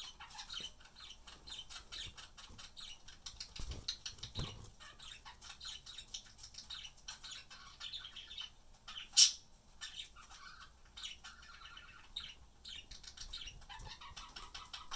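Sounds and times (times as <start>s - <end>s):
budgerigars chirping: 0.0s - 14.9s.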